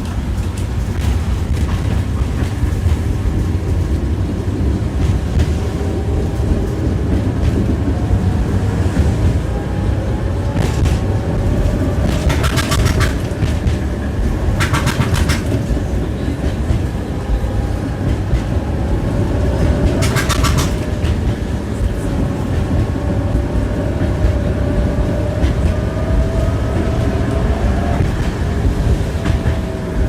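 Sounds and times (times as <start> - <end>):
tram rumbling along track: 0.0 - 30.0
wheels clattering over rail joints: 0.0 - 30.0.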